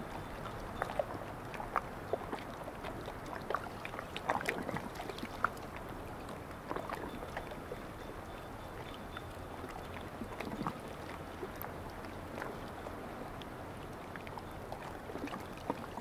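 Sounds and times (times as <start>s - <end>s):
sea lapping at shore: 0.0s - 16.0s.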